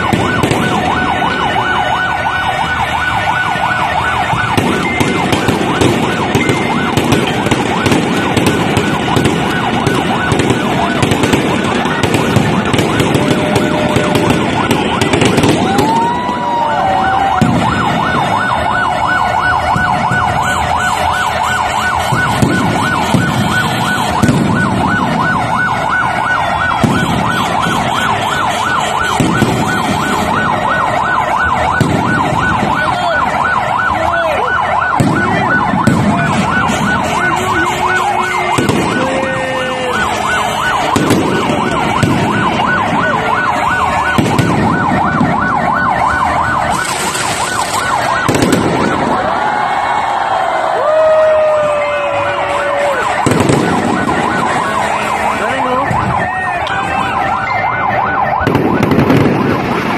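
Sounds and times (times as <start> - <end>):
fireworks booming: 0.0 - 59.9
siren warbling: 0.0 - 59.9.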